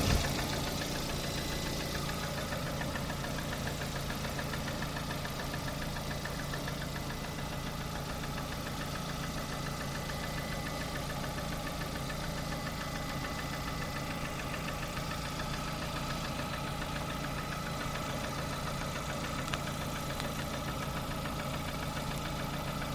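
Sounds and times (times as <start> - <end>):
car engine idling with ticking knock: 0.0 - 22.9.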